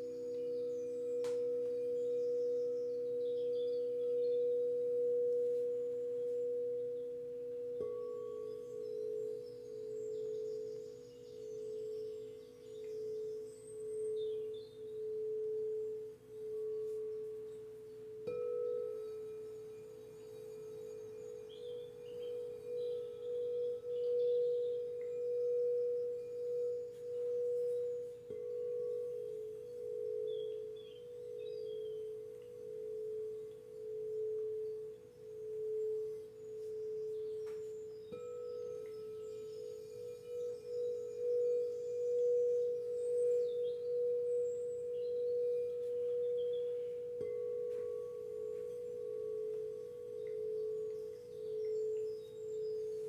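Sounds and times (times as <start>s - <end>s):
faint bird chirps: 0.0s - 53.0s
singing bowl ringing: 0.0s - 53.0s.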